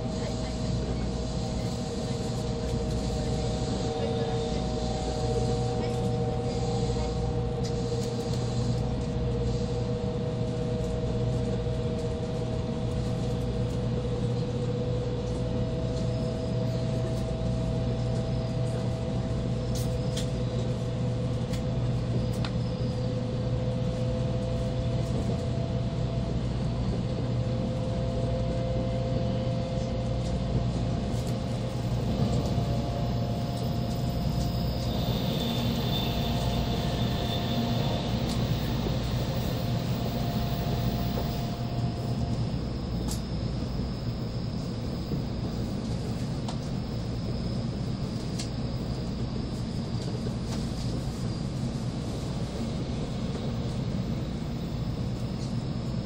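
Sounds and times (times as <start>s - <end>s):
train cabin rumble with rising whine: 0.0s - 56.0s.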